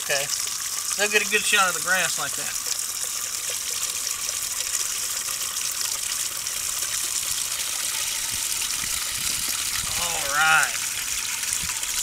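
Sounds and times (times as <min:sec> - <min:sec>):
water running into plastic container: 0:00.0 - 0:12.0.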